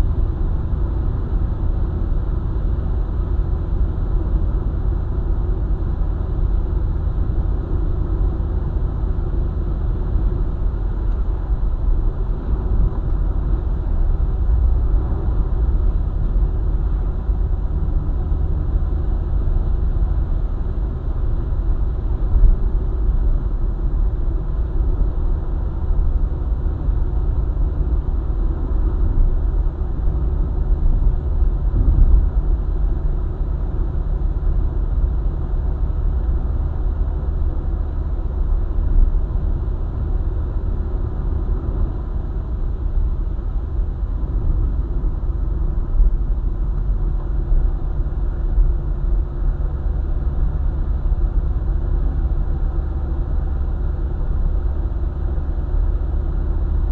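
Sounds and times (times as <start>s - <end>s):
car engine and road rumble: 0.0s - 56.9s.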